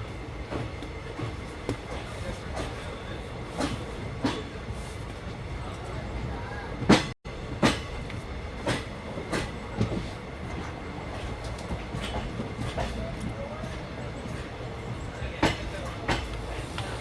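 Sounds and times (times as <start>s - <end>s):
train rumble and running hiss: 0.0s - 17.0s.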